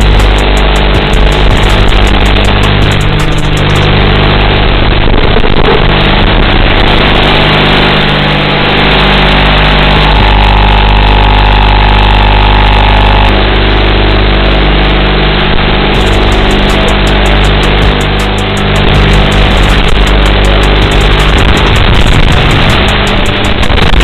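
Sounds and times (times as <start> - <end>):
drone hum and hiss: 0.0 - 24.0
steady higher tone: 0.0 - 24.0.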